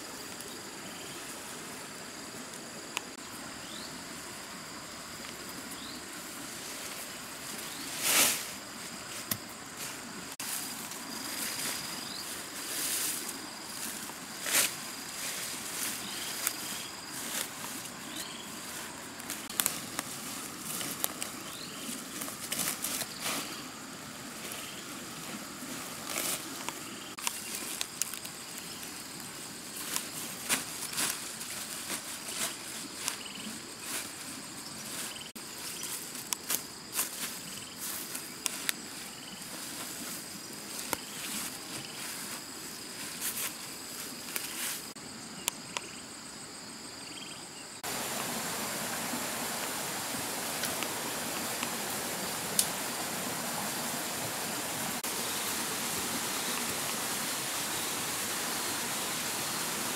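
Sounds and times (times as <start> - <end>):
insects buzzing: 0.0 - 59.9
leafy branches rustling and snapping: 6.5 - 23.7, 24.4 - 44.9, 47.8 - 59.9.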